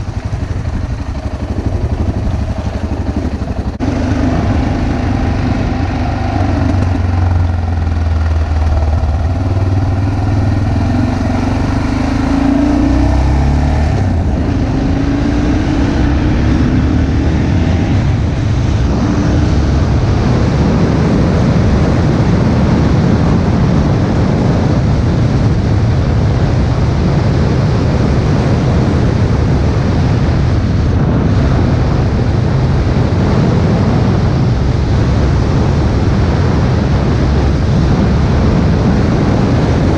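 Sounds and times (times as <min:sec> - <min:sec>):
vehicle engine running: 0:00.0 - 0:39.9
wind rush on microphone: 0:00.0 - 0:39.9.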